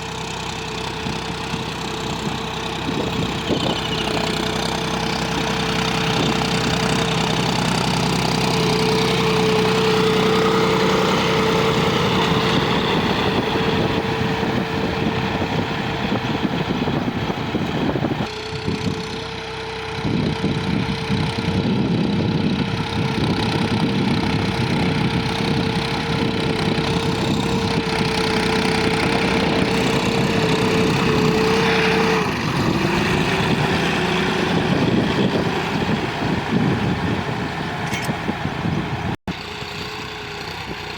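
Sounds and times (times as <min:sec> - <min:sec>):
engine whine: 0:00.0 - 0:40.9
tractor diesel engine running: 0:00.0 - 0:40.9.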